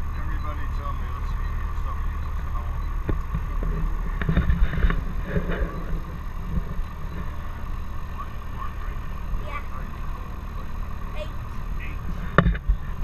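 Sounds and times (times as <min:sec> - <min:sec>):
light aircraft piston engine: 0:00.0 - 0:13.0.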